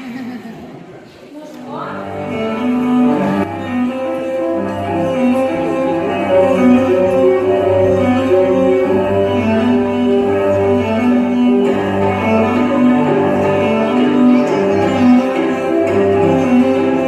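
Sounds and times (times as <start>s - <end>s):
dance music with cello: 2.0s - 17.0s.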